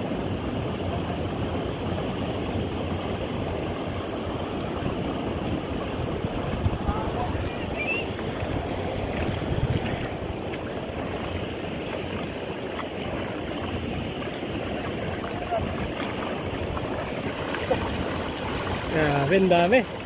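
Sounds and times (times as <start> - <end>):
water sloshing and lapping: 0.0 - 20.0
wind rumble on microphone: 0.0 - 20.0.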